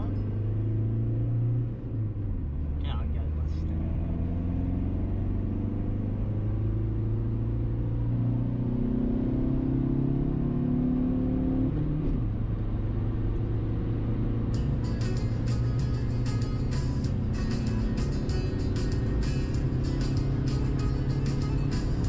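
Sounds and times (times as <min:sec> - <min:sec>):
car engine drone: 0:00.0 - 0:22.0
road noise: 0:00.0 - 0:22.0.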